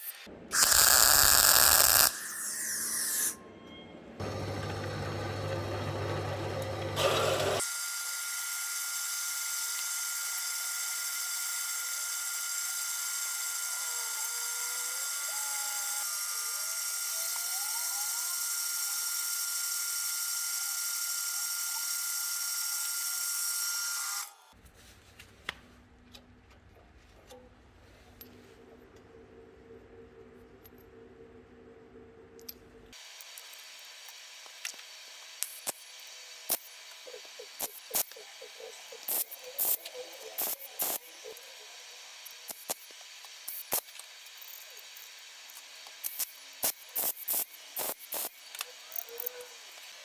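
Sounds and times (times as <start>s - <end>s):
power tool whining: 0.5s - 3.4s, 4.2s - 24.6s, 33.0s - 50.0s.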